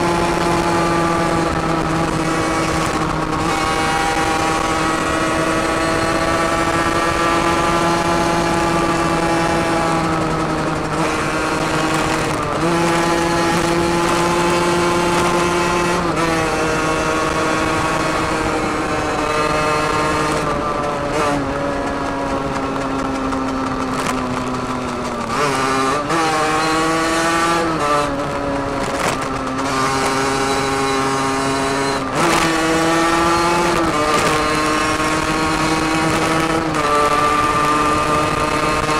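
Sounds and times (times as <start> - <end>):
two-stroke motorcycle engine revving: 0.0 - 38.9.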